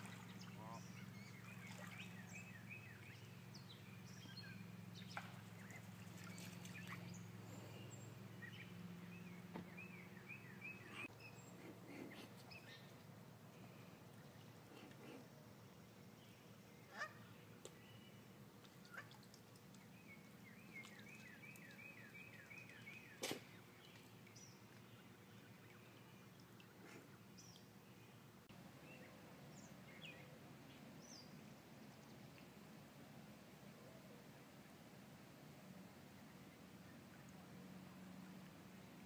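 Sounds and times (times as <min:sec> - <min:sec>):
faint pond ambience: 0:00.0 - 0:39.0.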